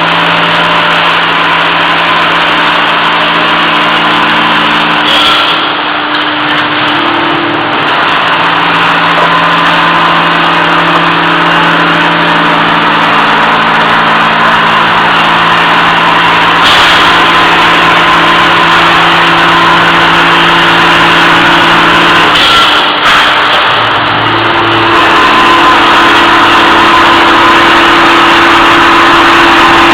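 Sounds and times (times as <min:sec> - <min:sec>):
machine hum with tones: 0:00.0 - 0:29.9.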